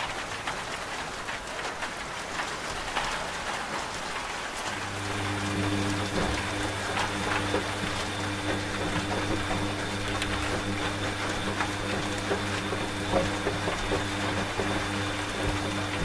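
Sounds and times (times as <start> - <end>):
rain falling: 0.0 - 16.0
washing machine humming: 0.0 - 16.0.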